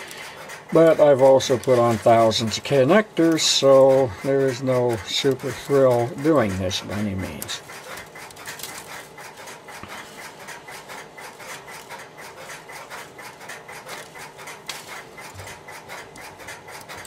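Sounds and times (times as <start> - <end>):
hands rubbing cable: 0.0 - 17.0.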